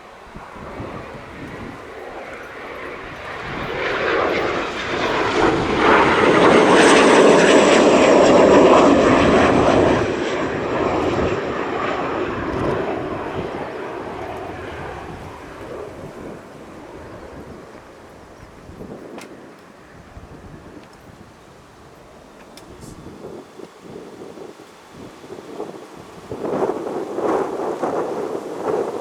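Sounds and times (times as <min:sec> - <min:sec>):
military jet passing: 0:00.0 - 0:29.0.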